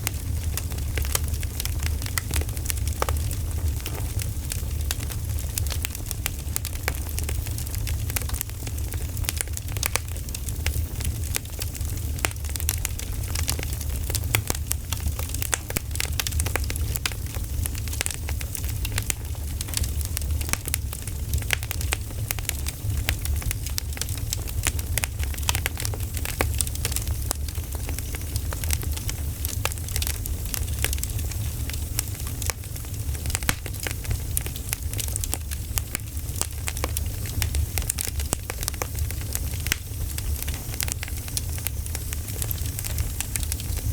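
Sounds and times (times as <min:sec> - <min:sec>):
burning wood popping and snapping: 0:00.0 - 0:43.9
low rumble of flames: 0:00.0 - 0:43.9.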